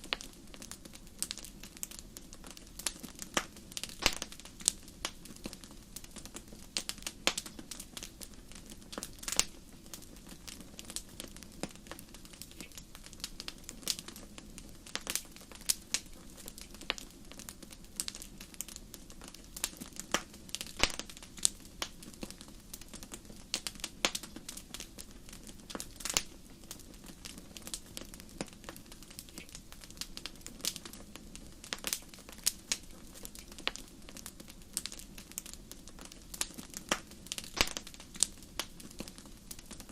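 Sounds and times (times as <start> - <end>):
fire crackling and popping: 0.0 - 39.9
flames burning: 0.0 - 39.9.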